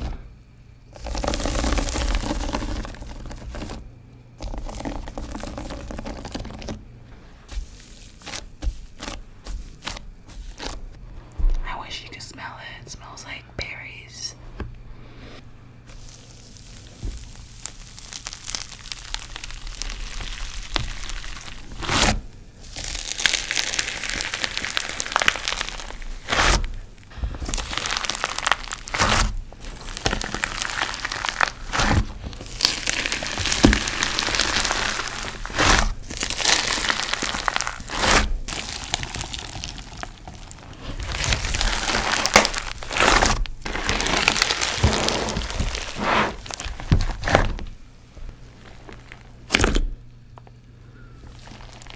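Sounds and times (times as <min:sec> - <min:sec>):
dense crinkling and crackling: 0:00.0 - 0:11.7, 0:14.4 - 0:51.9.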